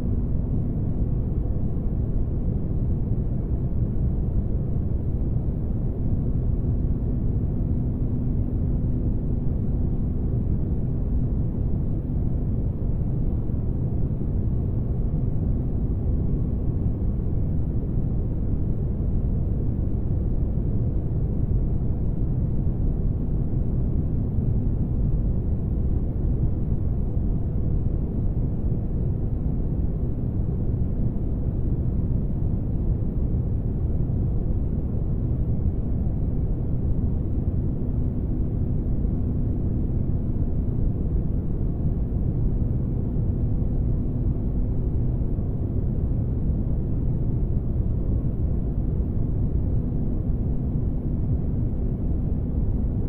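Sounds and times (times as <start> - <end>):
faint constant hum: 0.0 - 53.0.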